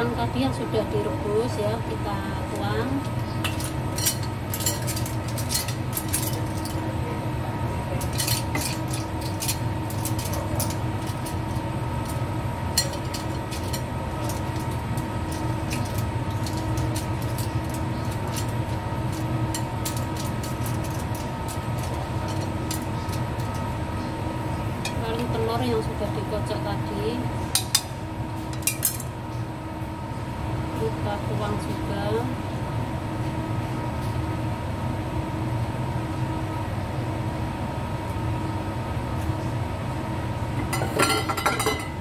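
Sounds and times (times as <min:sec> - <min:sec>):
cooktop hum: 0:00.0 - 0:42.0
water boiling in a wok: 0:00.0 - 0:42.0.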